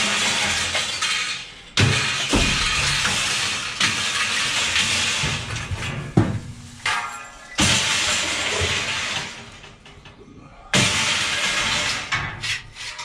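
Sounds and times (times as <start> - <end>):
scrap metal clattering and crashing: 0.0 - 13.0.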